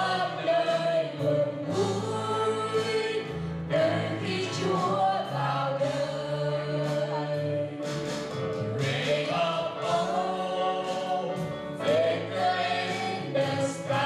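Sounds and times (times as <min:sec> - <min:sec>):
instrumental bass accompaniment: 0:00.0 - 0:14.0
vocal group singing a hymn: 0:00.0 - 0:14.0.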